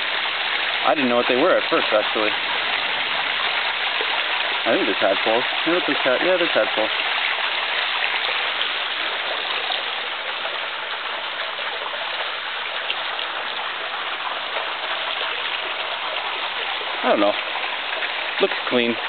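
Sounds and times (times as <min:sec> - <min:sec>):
waterfall splashing into pool: 0:00.0 - 0:19.0.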